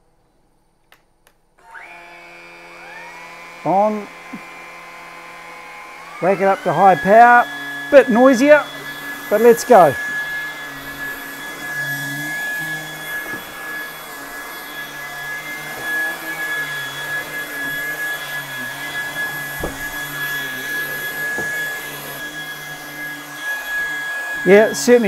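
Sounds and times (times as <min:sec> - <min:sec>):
stick vacuum running on carpet: 0:01.6 - 0:25.0.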